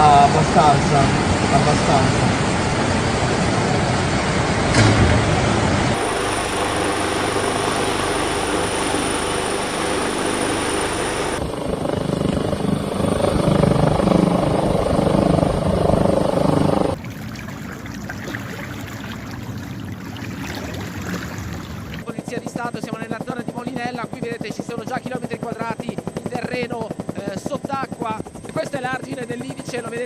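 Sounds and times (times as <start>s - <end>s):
helicopter rotor and engine: 0.0s - 30.0s.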